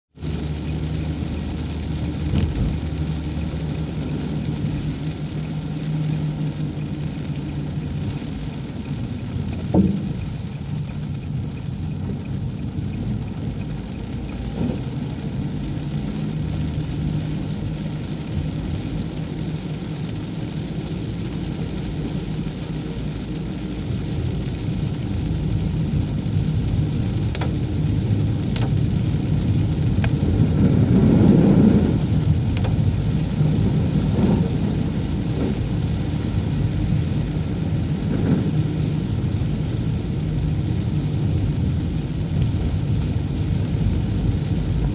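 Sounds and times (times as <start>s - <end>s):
engine and tyre rumble: 0.0s - 44.9s
rain: 0.1s - 44.9s.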